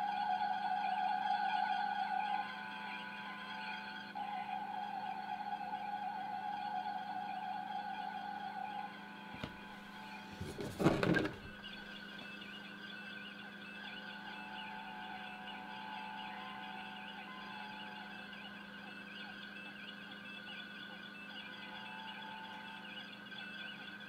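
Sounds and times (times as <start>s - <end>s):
electronic hum: 0.0s - 24.0s
faint wavering tones: 0.0s - 24.0s.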